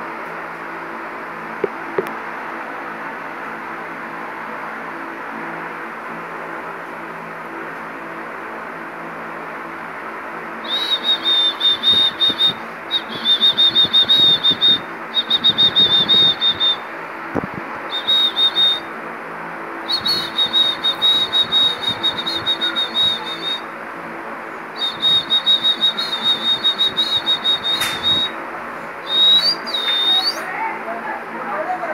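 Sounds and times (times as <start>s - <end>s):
steady background hum: 0.0s - 31.9s.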